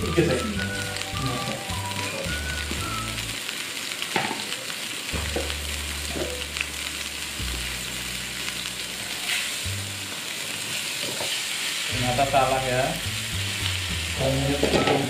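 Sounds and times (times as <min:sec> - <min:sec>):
paste sizzling in oil: 0:00.0 - 0:15.0.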